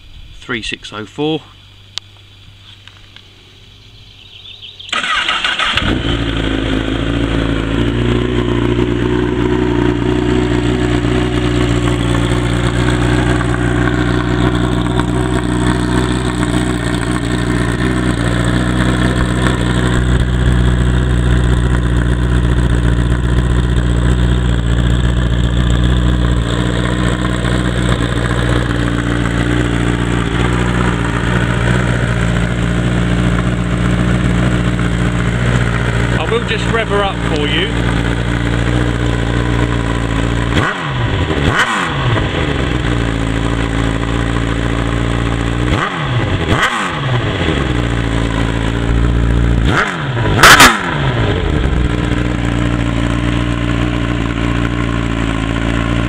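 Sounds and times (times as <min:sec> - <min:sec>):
motorcycle engine idling: 0:01.6 - 0:56.0
motorcycle engine starting: 0:04.0 - 0:56.0.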